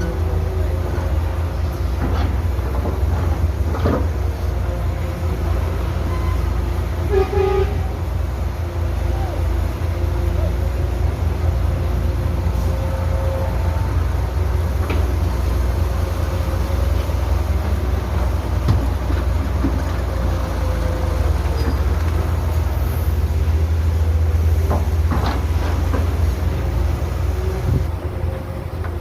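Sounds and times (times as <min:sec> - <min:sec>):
diesel machinery rumbling: 0:00.0 - 0:29.0.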